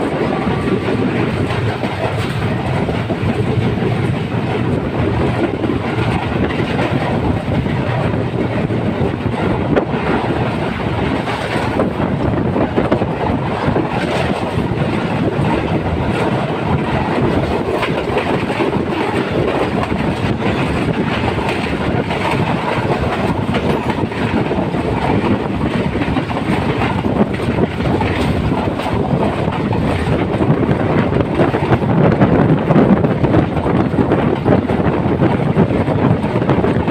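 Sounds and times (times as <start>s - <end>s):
train wheels on rails: 0.0s - 36.9s.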